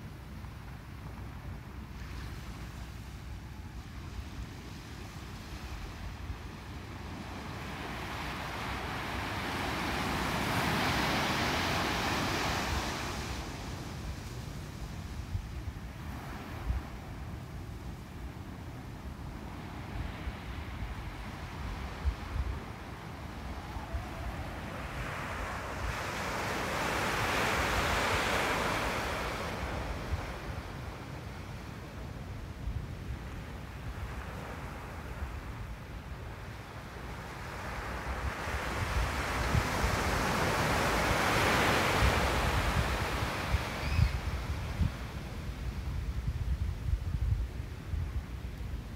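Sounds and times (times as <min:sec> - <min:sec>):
wind rumble on microphone: 0:00.0 - 0:48.9
ocean surf washing onto beach: 0:00.3 - 0:48.9
small waves breaking on sand: 0:01.7 - 0:46.3.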